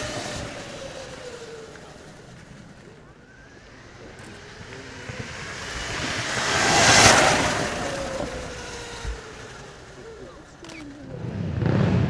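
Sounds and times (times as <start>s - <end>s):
electric motorcycle passing: 0.0s - 12.0s.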